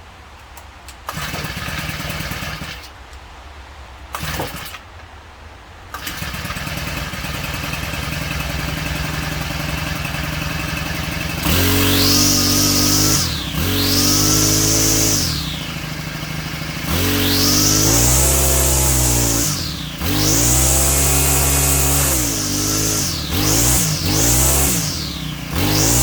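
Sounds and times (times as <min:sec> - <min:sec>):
string trimmer engine starting and revving: 0:01.0 - 0:03.0, 0:04.1 - 0:04.8, 0:05.9 - 0:26.0.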